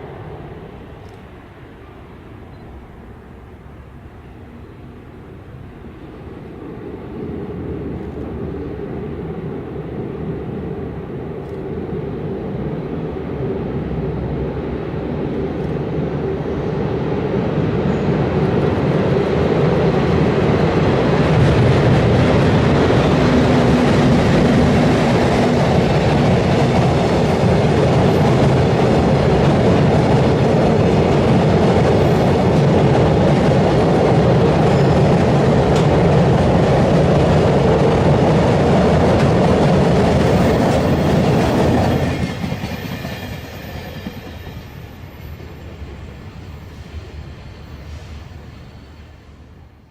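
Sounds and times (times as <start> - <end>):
train rumbling over bridge: 0.0 - 49.9.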